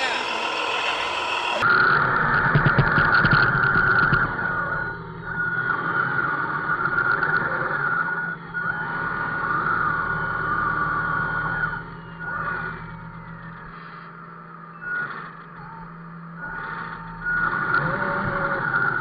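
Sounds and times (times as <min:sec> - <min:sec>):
electric motor and gears whining: 0:00.0 - 0:19.0.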